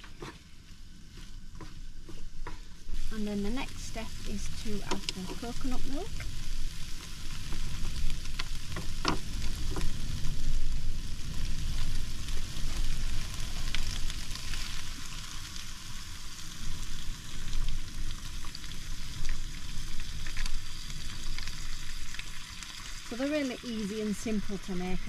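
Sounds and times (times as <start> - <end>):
prawns sizzling in a frying pan: 0.0 - 25.0.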